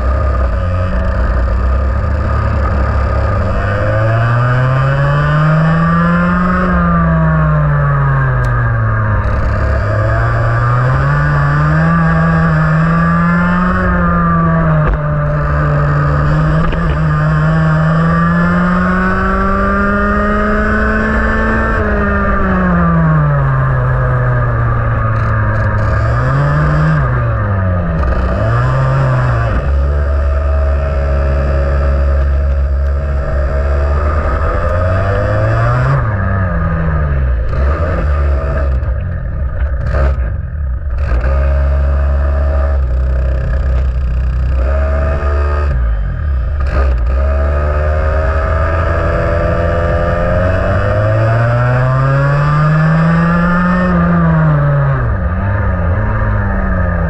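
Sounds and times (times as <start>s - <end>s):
kart engine under load: 0.0s - 57.0s.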